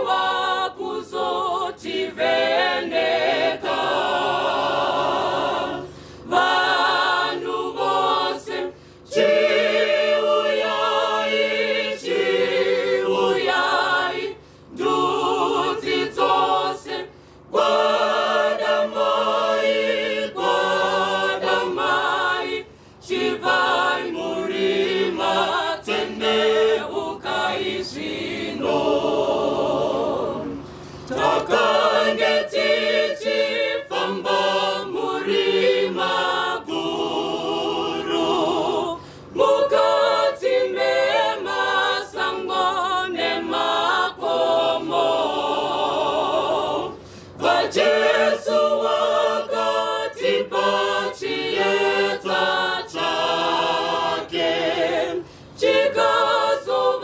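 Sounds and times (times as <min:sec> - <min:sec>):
mixed choir singing a cappella: 0:00.0 - 0:57.0.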